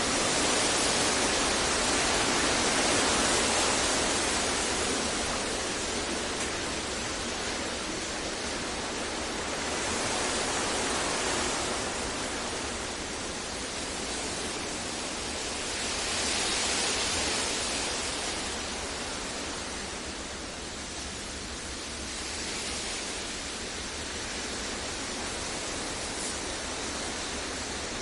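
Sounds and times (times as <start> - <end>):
steady synthetic hiss: 0.0 - 28.0.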